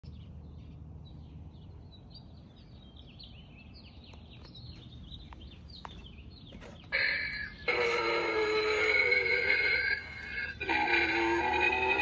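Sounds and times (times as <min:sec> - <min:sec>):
low outdoor rumble: 0:00.0 - 0:12.0
songbirds chirping: 0:00.0 - 0:12.0.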